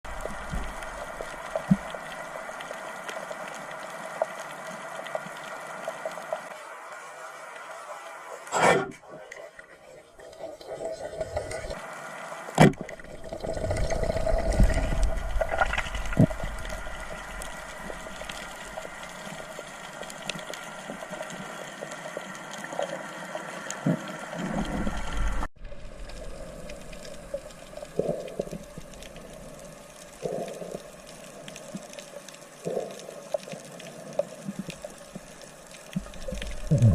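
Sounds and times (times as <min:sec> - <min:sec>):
underwater water noise: 0:00.0 - 0:36.9.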